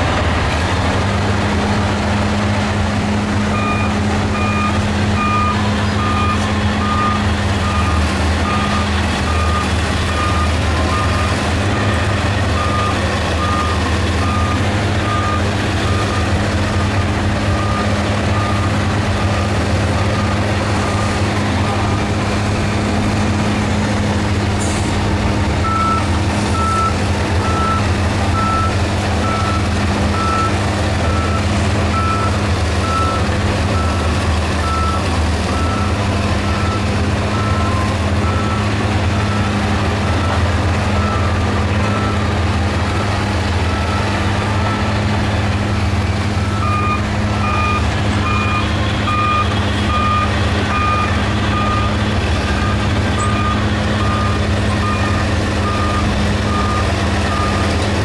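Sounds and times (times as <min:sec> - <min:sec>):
diesel machinery engine drone: 0:00.0 - 0:58.0
reversing alarm beeping: 0:03.5 - 0:16.8, 0:17.5 - 0:22.1, 0:25.6 - 0:44.9, 0:46.4 - 0:57.8.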